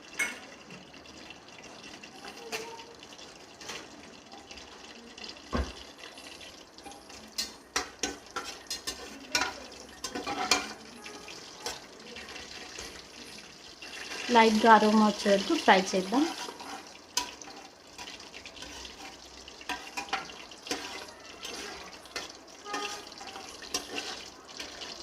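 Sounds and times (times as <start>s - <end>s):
spices sizzling in hot oil: 0.0s - 25.0s
spoon stirring against pot: 1.7s - 25.0s.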